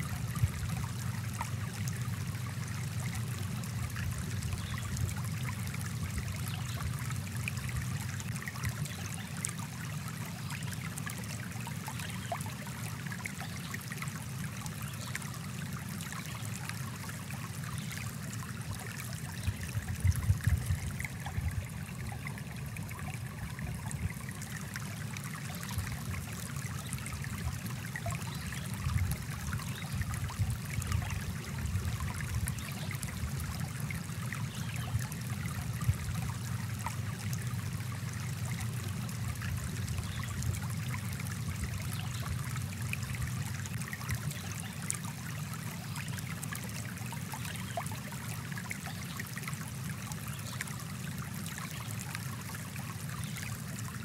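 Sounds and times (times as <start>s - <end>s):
stream flowing over rocks: 0.0s - 54.0s
water trickling: 0.0s - 54.0s.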